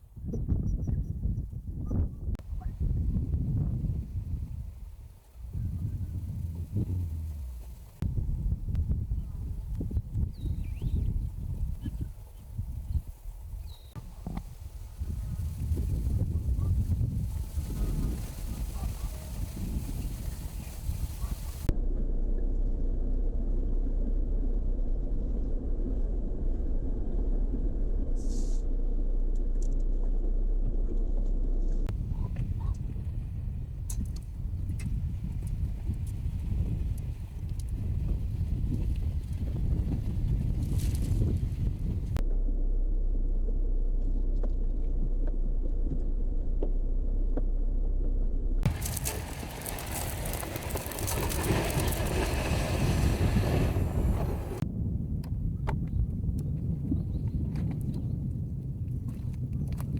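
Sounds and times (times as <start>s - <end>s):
vehicle engine and road noise: 2.3s - 10.2s, 11.1s - 54.7s.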